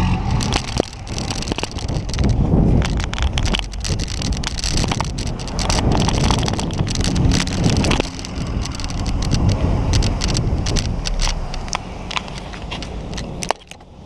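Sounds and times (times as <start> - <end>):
bike rattles and knocks: 0.0 - 14.0
wind rushing over microphone: 0.0 - 14.0.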